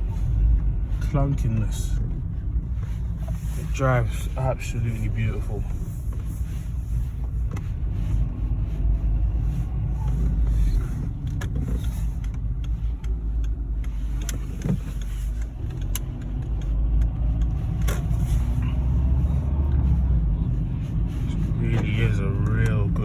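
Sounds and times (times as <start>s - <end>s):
engine and road noise in car cabin: 0.0s - 23.0s.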